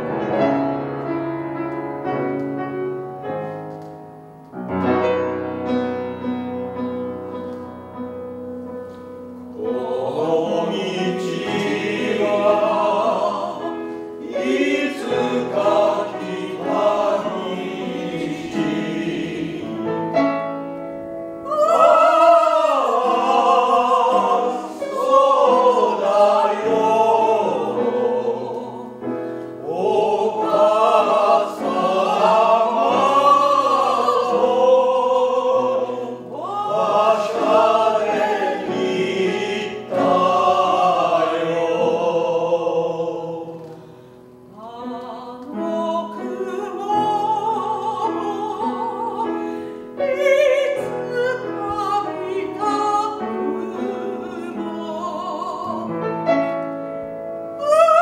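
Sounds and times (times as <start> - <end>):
upright piano: 0.0 - 58.0
vocal ensemble singing: 9.4 - 20.6, 21.4 - 58.0.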